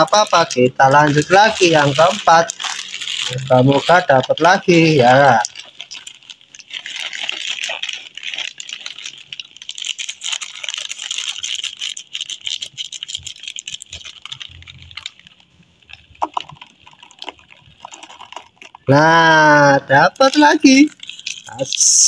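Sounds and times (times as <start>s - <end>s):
corn puffs clicking on cardboard: 0.0s - 15.2s, 15.9s - 18.9s
plastic snack packet crinkling: 0.0s - 22.0s.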